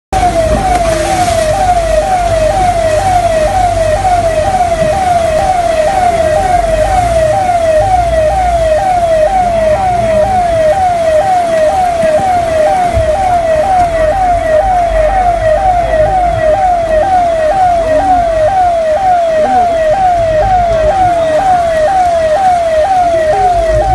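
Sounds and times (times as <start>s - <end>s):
siren-like wailing tone: 0.2s - 23.9s.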